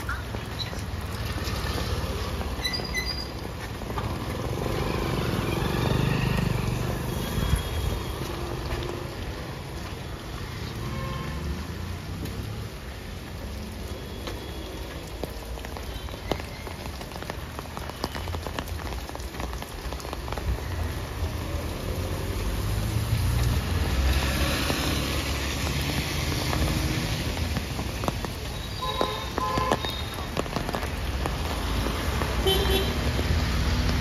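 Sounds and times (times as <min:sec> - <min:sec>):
rain on wet pavement: 0:00.0 - 0:34.0.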